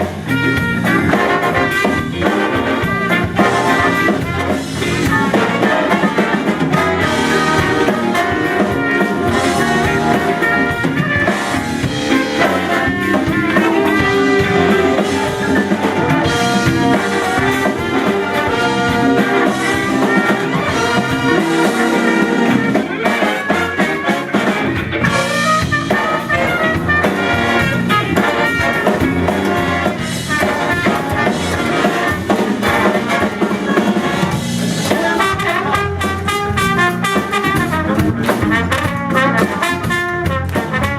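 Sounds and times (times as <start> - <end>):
drum kit: 0.0 - 40.9
horn section playing soul music: 0.0 - 40.9.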